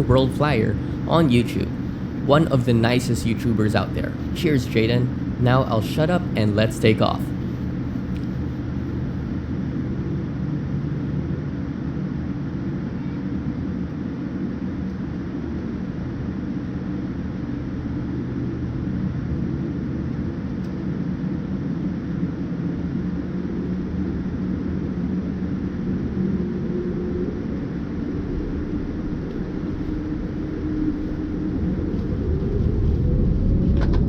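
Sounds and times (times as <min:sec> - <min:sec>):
jet engine rumble in cabin: 0:00.0 - 0:34.0.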